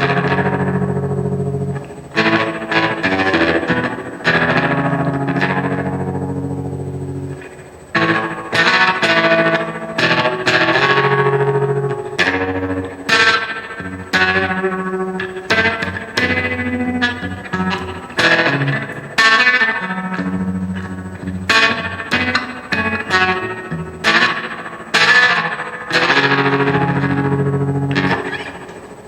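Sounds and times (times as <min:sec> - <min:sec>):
electric guitar with reverb: 0:00.0 - 0:29.0.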